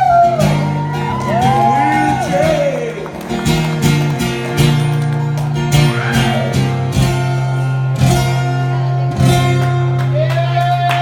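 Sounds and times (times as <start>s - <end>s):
electric guitars playing: 0.0s - 10.9s.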